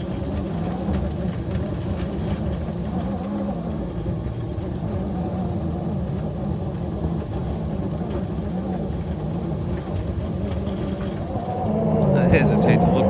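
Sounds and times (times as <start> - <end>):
model locomotive running: 0.0 - 13.0.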